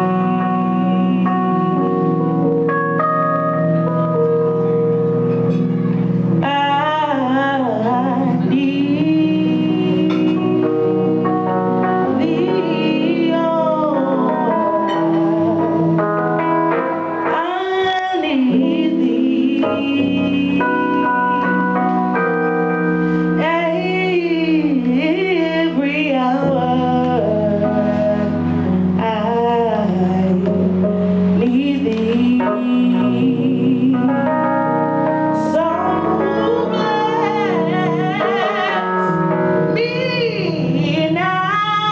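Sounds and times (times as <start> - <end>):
person singing: 0.0 - 2.6, 5.4 - 21.8, 23.4 - 41.9
sustained instrumental chords: 0.0 - 41.9.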